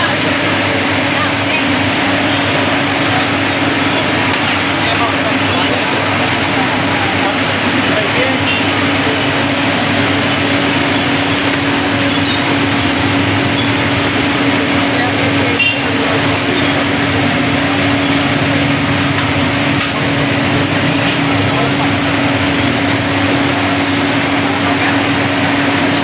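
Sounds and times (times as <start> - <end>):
crowd chatter: 0.0 - 26.0
steady hum: 0.0 - 26.0
traffic noise: 0.0 - 26.0.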